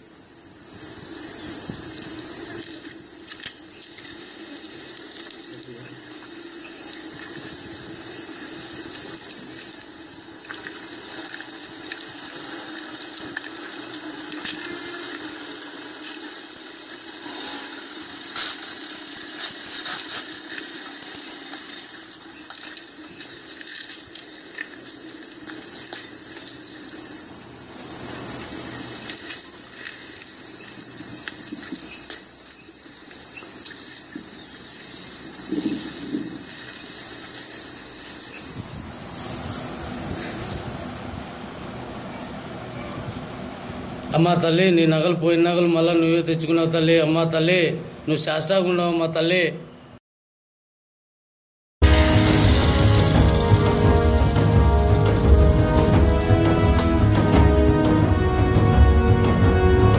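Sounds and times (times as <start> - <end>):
insects droning shrilly: 0.0 - 49.4, 51.8 - 59.9.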